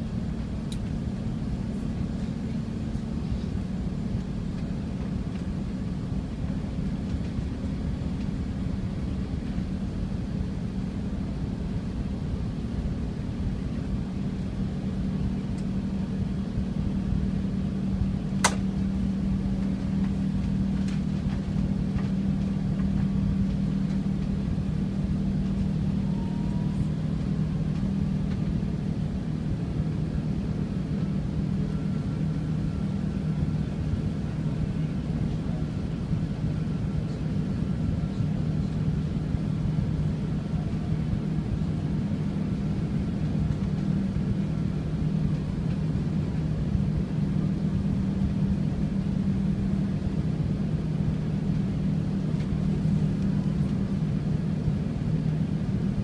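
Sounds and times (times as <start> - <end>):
aircraft engines and airflow rumble: 0.0 - 56.0.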